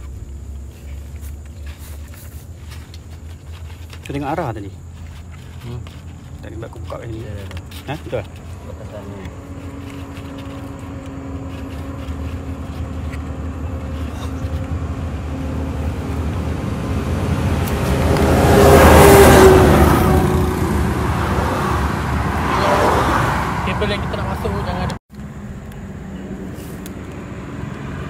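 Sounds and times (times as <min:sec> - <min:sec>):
vehicle passing: 0:03.6 - 0:28.0.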